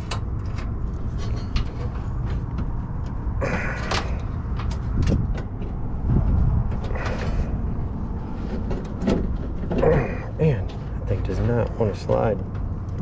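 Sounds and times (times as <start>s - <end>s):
metal clicks and knocks: 0.0s - 7.4s, 8.3s - 13.0s
steady low rumble: 0.0s - 13.0s.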